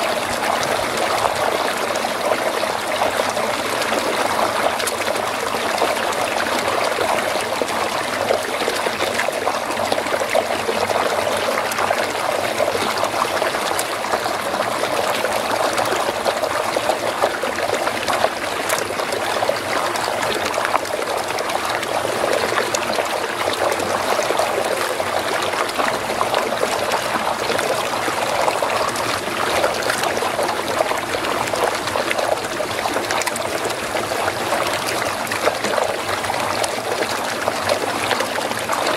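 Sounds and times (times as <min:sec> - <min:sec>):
water swirling down whirlpool: 0:00.0 - 0:38.9.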